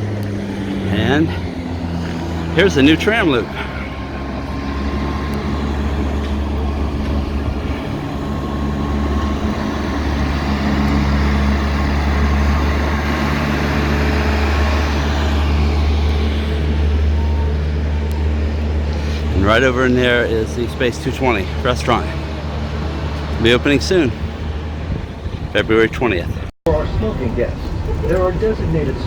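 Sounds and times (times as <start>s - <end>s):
monorail rumble and hum: 0.0s - 29.0s.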